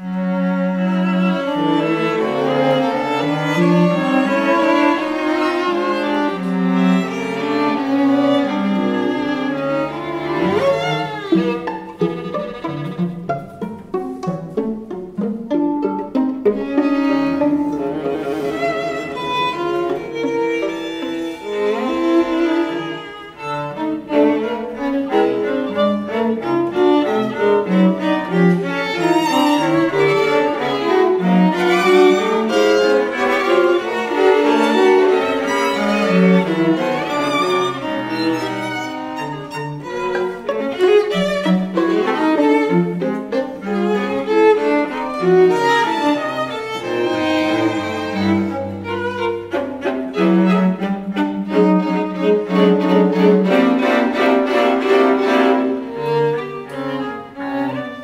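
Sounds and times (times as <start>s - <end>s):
string quartet playing: 0.0s - 58.0s.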